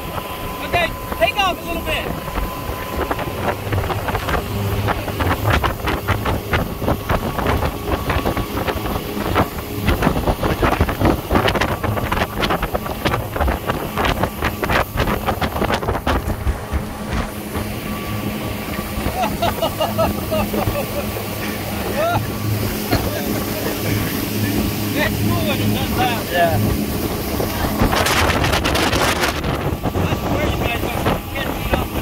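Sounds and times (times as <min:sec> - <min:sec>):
motorboat engine rumble: 0:00.0 - 0:32.0
rushing water from wake: 0:00.0 - 0:32.0
wind buffeting microphone: 0:00.0 - 0:32.0.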